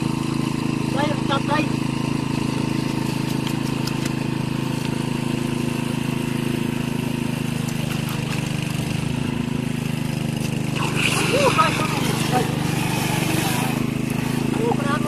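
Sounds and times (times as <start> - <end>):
water pump engine running: 0.0 - 15.0.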